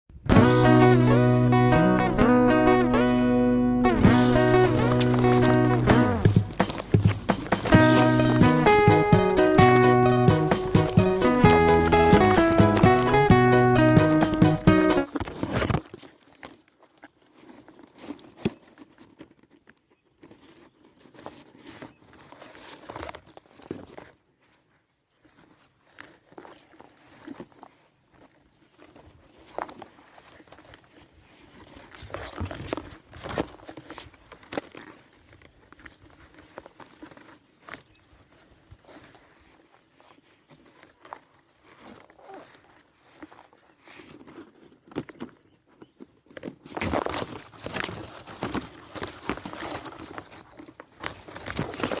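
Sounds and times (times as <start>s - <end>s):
rustling and crinkling: 3.6s - 52.0s.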